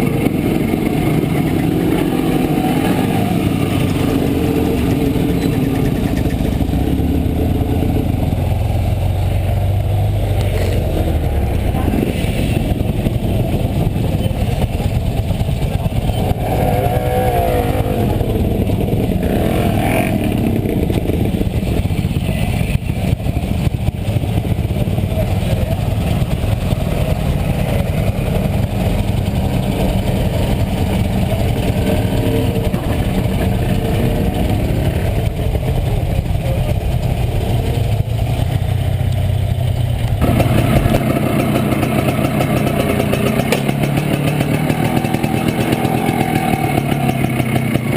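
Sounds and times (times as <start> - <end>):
two-stroke motorcycle engine running: 0.0 - 47.9.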